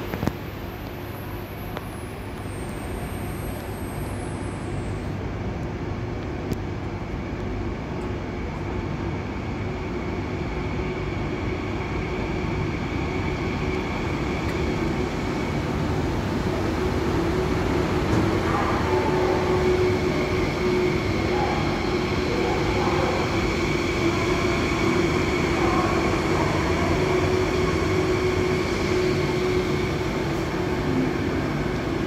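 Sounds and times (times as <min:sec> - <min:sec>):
train high whine: 0:00.0 - 0:32.0
train rumbling: 0:00.0 - 0:32.0.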